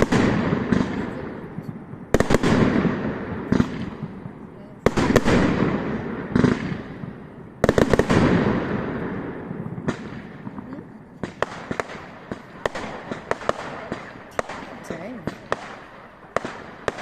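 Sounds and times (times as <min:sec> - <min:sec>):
fireworks bangs: 0:00.0 - 0:17.0
fireworks crackling pops: 0:00.0 - 0:17.0
rumble of fireworks: 0:00.0 - 0:17.0.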